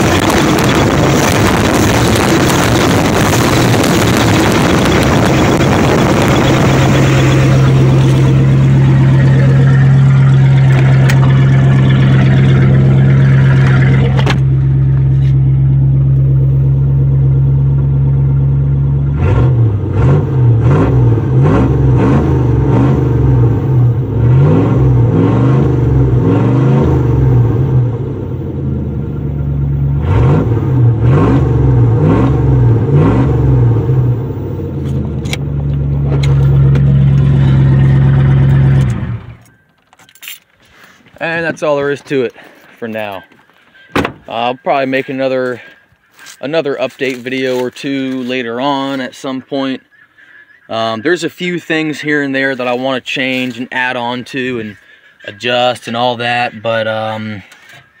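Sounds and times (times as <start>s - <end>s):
loud car engine idling and revving: 0.0s - 40.3s, 41.2s - 58.0s.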